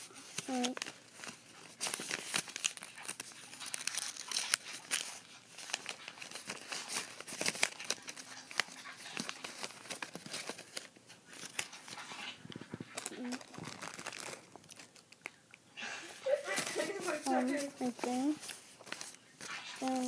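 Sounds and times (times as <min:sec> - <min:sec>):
paper being folded and creased: 0:00.0 - 0:15.1, 0:15.8 - 0:20.0.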